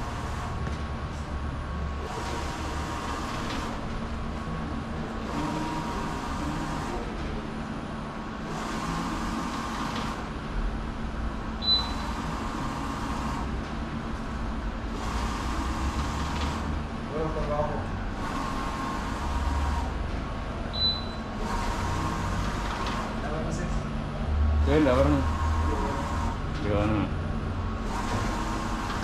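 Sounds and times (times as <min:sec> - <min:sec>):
printer carriage whirring: 0:00.0 - 0:29.0
printer steady hum: 0:00.0 - 0:29.0.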